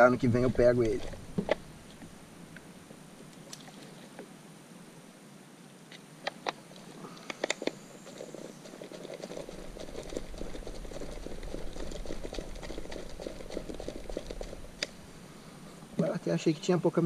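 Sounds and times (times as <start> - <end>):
crackling rustle in damp soil: 0.0 - 17.0.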